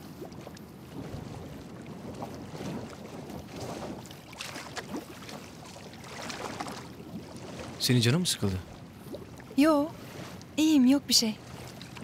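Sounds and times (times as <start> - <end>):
water splashing against boat hull: 0.0 - 12.0
wind: 0.0 - 12.0.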